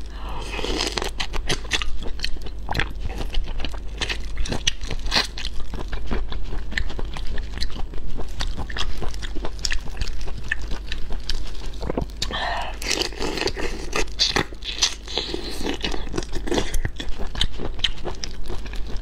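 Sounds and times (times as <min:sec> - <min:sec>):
chewing shrimp shells crunching: 0:00.5 - 0:19.0.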